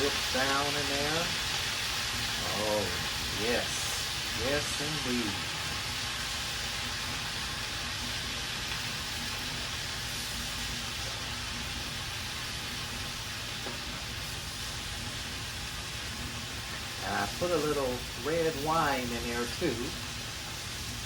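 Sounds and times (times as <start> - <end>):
food sizzling in a skillet: 0.0 - 21.0.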